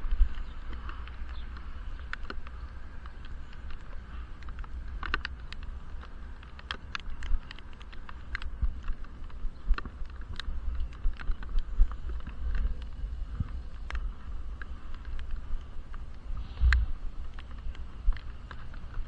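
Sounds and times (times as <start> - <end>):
low rumble of wind and road: 0.0 - 19.0
raindrops tapping on camera case: 0.0 - 19.0.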